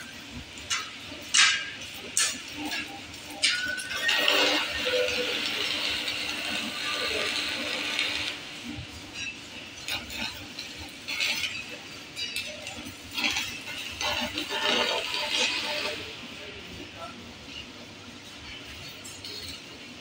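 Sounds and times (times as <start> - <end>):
welding arc crackling and hissing: 0.0 - 20.0.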